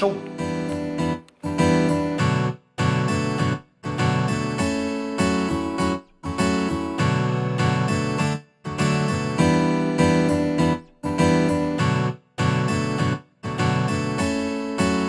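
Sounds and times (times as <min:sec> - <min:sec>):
strummed acoustic guitar: 0:00.1 - 0:15.0.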